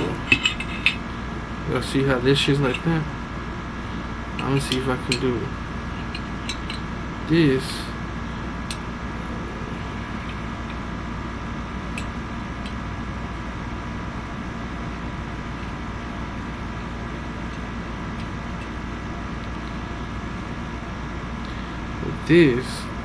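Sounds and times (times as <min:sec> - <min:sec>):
mechanical room hum: 0:00.0 - 0:23.0.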